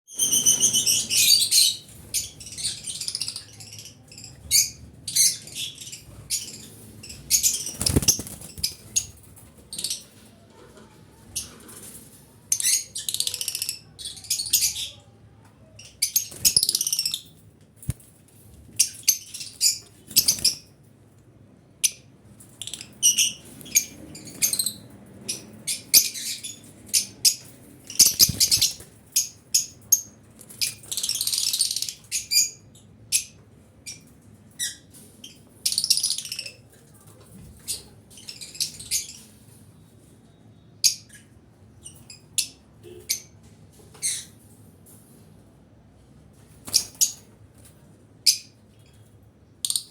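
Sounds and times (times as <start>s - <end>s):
lovebirds chirping and squawking: 0.1s - 20.8s, 21.8s - 36.8s, 37.4s - 39.6s, 40.8s - 44.6s, 46.5s - 47.4s, 48.2s - 49.9s.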